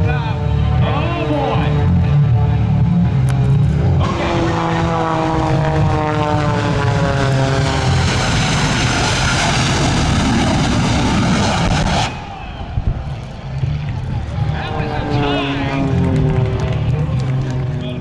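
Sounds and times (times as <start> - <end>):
loud rushing engine noise: 0.0 - 18.0
propeller airplane passing: 0.0 - 18.0.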